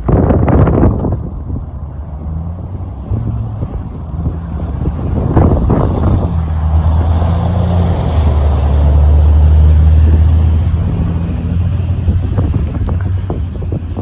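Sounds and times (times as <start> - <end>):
vehicle engine running: 0.1 - 14.0.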